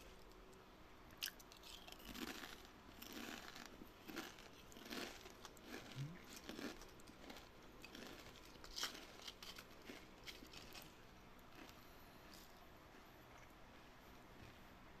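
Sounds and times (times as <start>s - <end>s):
wet crunching of chewing: 1.2s - 14.7s.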